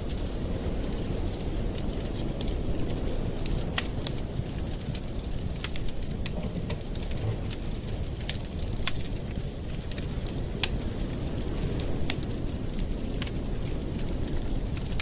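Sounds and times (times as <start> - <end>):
burning wood popping and crackling: 0.0 - 15.0
low rumble of flames: 0.0 - 15.0.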